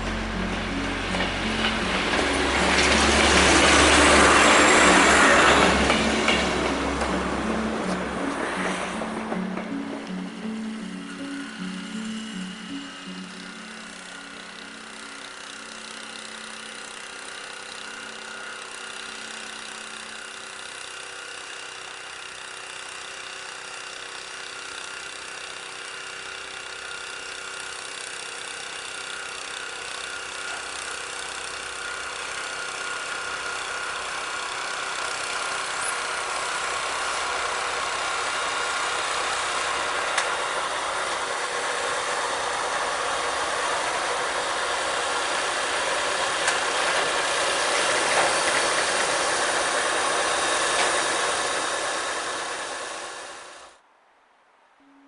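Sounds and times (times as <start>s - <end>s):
diesel locomotive engine: 0.0s - 53.8s
snowblower engine running: 0.0s - 53.8s.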